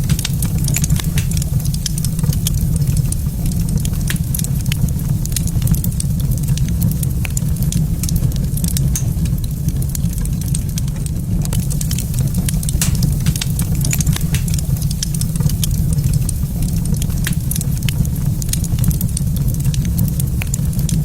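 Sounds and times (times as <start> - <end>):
low rumble: 0.0 - 21.0
wood fire crackling and popping: 0.0 - 21.0.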